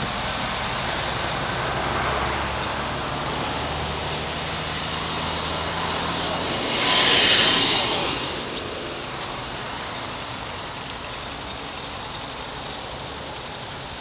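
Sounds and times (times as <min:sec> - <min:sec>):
vehicle running noise: 0:00.0 - 0:14.0.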